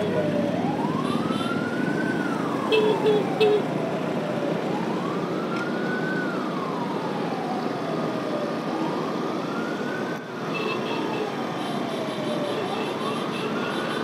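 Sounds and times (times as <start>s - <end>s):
electronic siren wailing: 0.0s - 10.2s, 10.8s - 14.0s
wind and road noise: 0.0s - 14.0s.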